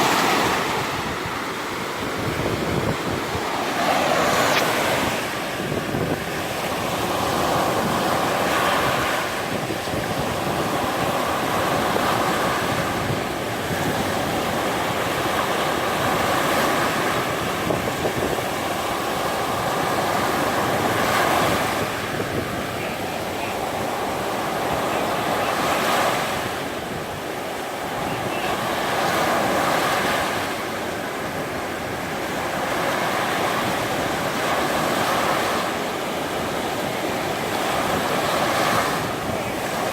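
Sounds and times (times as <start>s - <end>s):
surf breaking on beach: 0.0s - 39.9s
wind on microphone: 0.0s - 39.9s.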